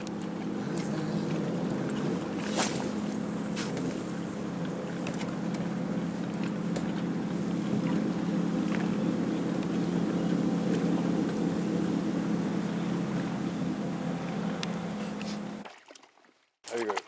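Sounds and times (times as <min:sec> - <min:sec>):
outboard motor droning: 0:00.0 - 0:15.9.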